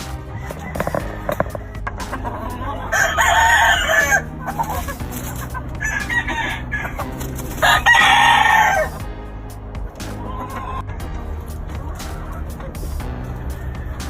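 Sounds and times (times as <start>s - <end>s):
roosters crowing: 0.2s - 9.0s, 10.0s - 14.0s.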